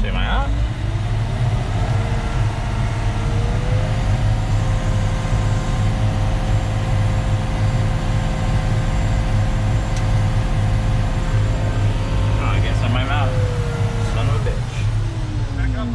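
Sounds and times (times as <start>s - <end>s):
diesel truck engine running: 0.0s - 15.9s
steady mechanical whine: 0.0s - 15.9s.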